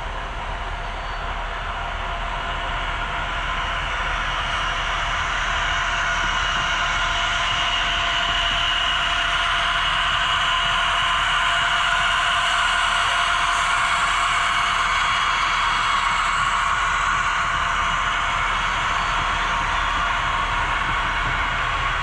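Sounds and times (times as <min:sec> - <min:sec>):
model train whirring with whine: 0:00.0 - 0:22.0.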